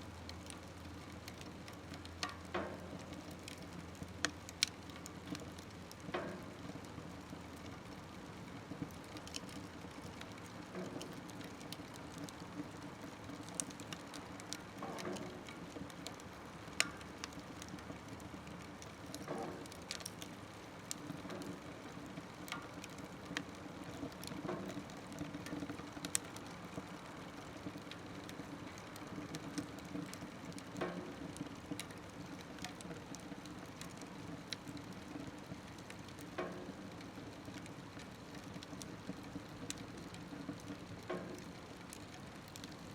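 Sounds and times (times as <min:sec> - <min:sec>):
fire hissing and rumbling: 0:00.0 - 0:42.9
wood crackling and popping: 0:00.0 - 0:42.9.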